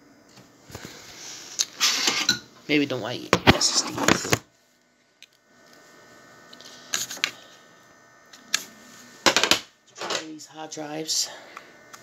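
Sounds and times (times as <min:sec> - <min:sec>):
computer hum with thin tones: 0:00.0 - 0:12.0.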